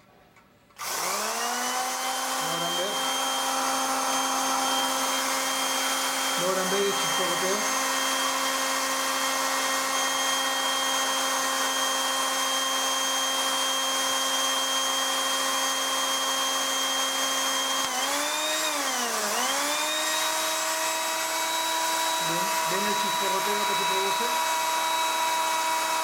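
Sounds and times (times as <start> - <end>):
blender motor whining: 0.8 - 26.0.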